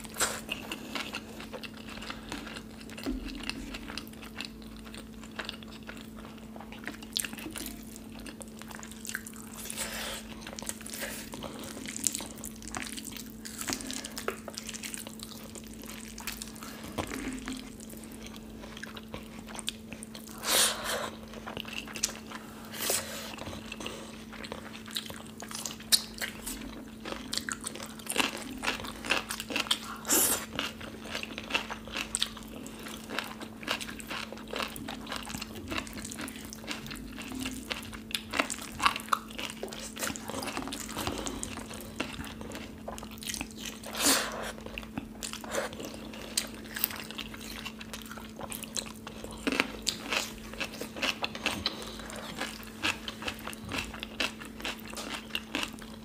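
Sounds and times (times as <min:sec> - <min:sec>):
food crunching: 0:00.0 - 0:56.0
steady low hum: 0:00.0 - 0:56.0.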